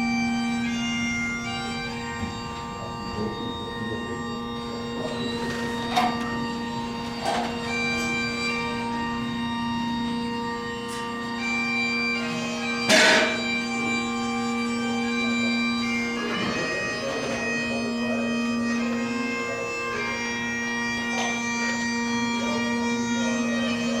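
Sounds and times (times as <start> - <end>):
bagpipes playing slow tune: 0.0 - 24.0.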